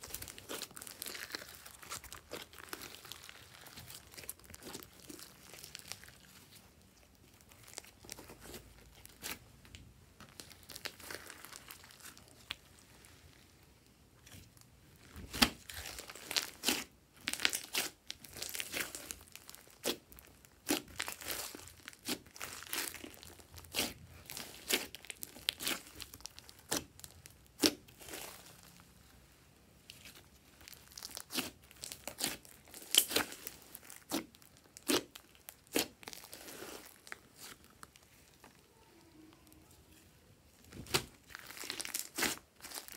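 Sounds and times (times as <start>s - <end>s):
slime squishing and crackling: 0.0s - 42.9s.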